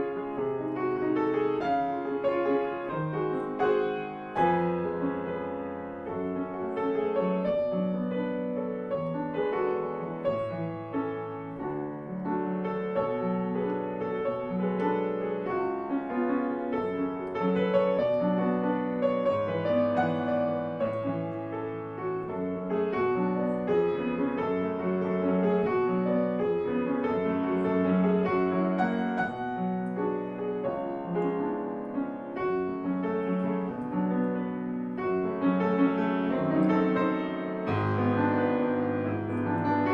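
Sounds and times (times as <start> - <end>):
solo grand piano piece: 0.0 - 39.9.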